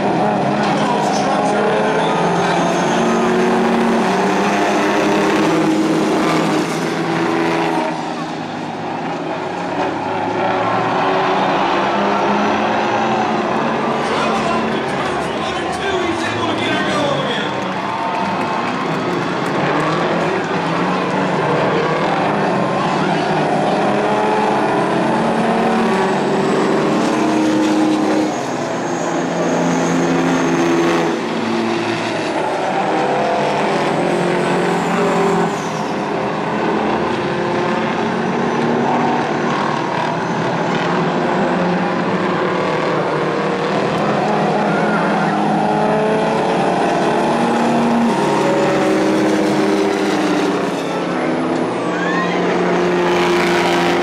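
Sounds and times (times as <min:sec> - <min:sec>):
racing truck diesel engines: 0:00.0 - 0:54.0.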